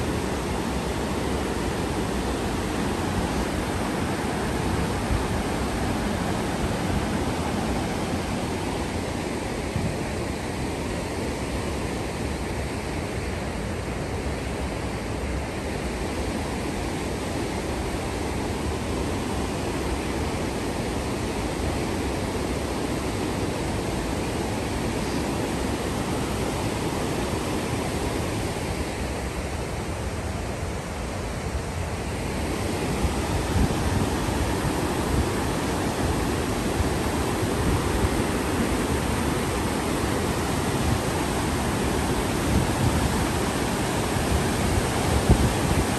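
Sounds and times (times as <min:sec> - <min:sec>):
river rapids roaring: 0:00.0 - 0:45.9.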